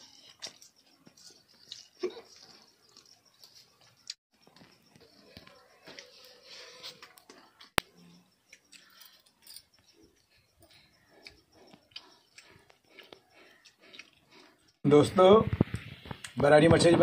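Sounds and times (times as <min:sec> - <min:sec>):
faint chewing: 0:00.0 - 0:14.8.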